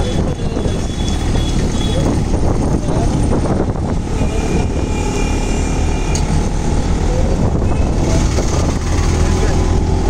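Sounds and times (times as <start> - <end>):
street traffic: 0.0 - 10.0
vehicle engine and road noise: 0.0 - 10.0.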